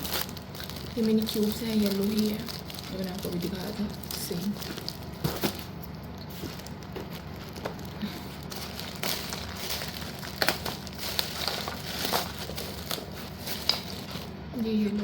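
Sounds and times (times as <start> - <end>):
plastic packaging rustling: 0.0 - 14.8.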